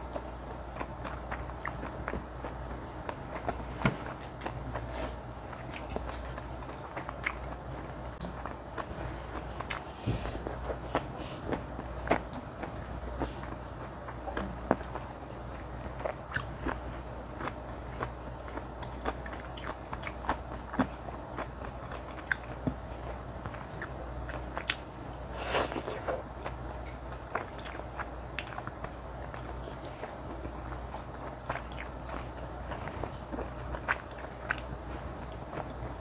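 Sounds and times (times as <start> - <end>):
chewing and crunching food: 0.0 - 36.0.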